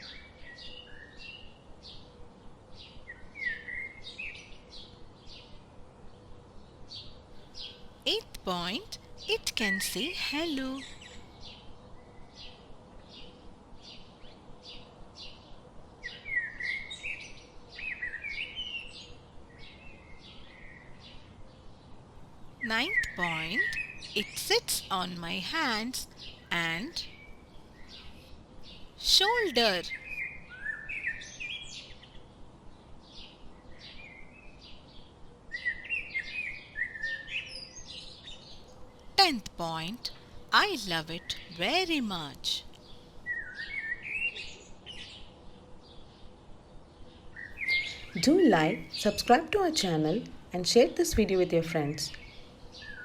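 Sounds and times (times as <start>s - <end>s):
small birds chirping: 0.0s - 50.4s.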